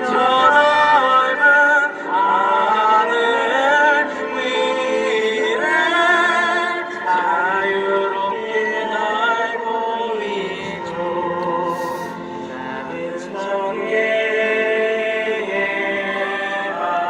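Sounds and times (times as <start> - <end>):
choir singing: 0.0 - 17.0.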